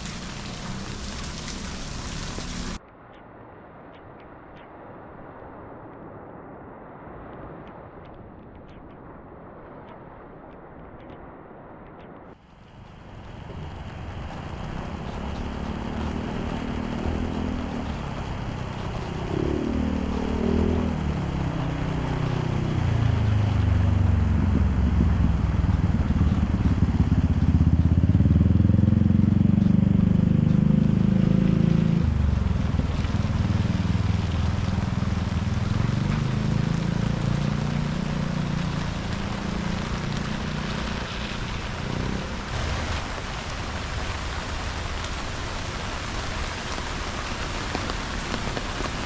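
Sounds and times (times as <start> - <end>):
steady rain hiss: 0.0 - 2.8, 12.3 - 49.0
vehicle engine passing by: 0.0 - 2.8, 12.5 - 49.0.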